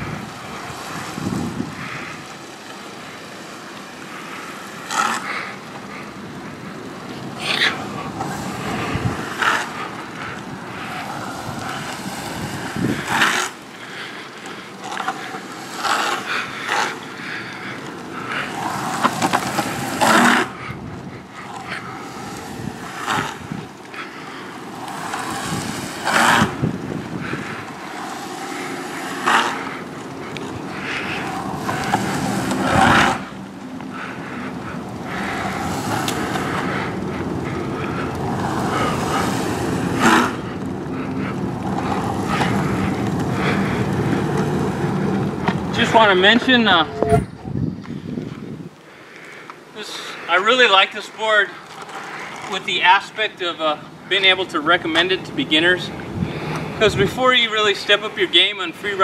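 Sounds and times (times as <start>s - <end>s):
longboard sliding scrape: 0.0s - 48.4s, 49.2s - 59.0s
longboard wheels rolling on asphalt: 0.0s - 59.0s.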